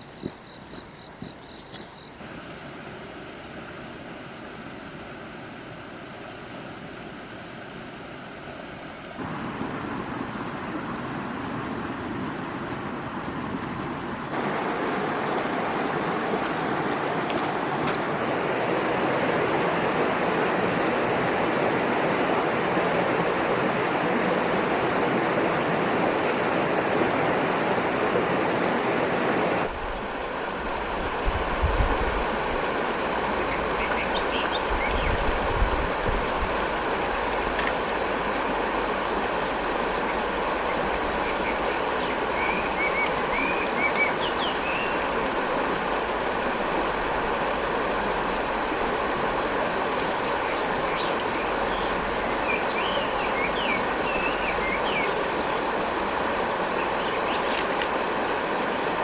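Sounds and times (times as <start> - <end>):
stream water rushing: 2.2 - 59.0.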